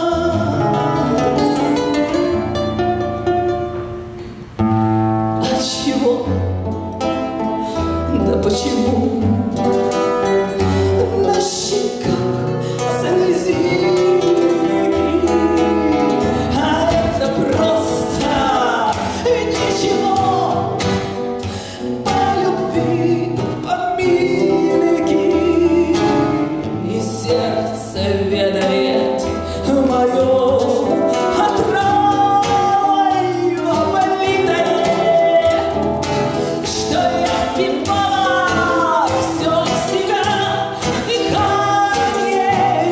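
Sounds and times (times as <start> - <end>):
woman singing: 0.0 - 3.8, 5.1 - 42.9
instrumental backing: 0.0 - 42.9.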